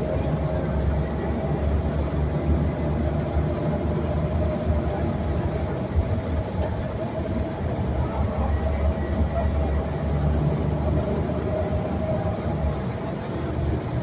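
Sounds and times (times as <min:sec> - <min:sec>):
bus interior rumble: 0:00.0 - 0:14.0.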